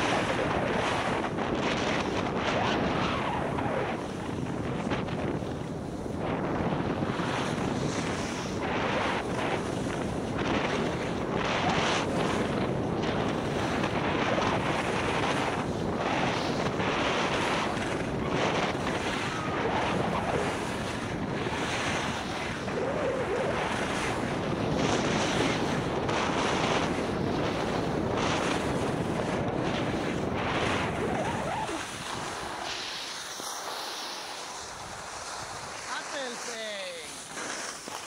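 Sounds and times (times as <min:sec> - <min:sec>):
wind rushing over microphone: 0:00.0 - 0:38.0
skis scraping over packed snow: 0:06.0 - 0:38.0.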